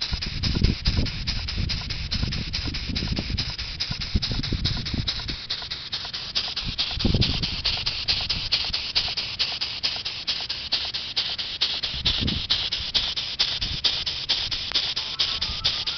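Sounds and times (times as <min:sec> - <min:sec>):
model steam engine puffing: 0:00.0 - 0:15.9.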